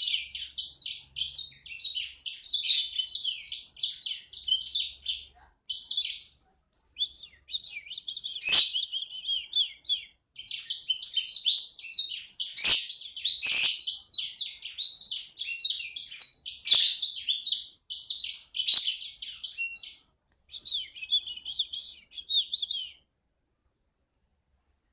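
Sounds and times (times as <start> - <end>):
songbird twittering: 0.0 - 23.0.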